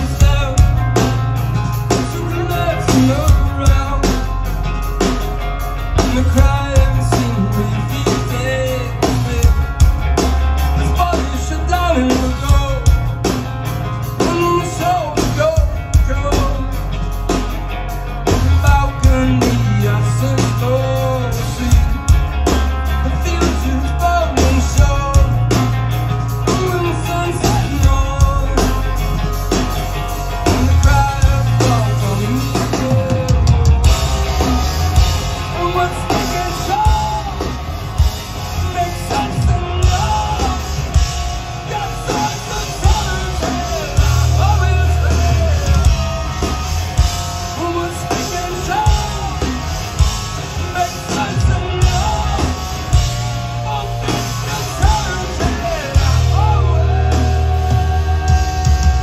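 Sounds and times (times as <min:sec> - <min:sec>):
man singing: 0:00.0 - 0:17.4, 0:18.2 - 0:59.0
bass guitar: 0:00.0 - 0:59.0
distorted electric guitars: 0:00.0 - 0:59.0
drum kit: 0:00.0 - 0:59.0.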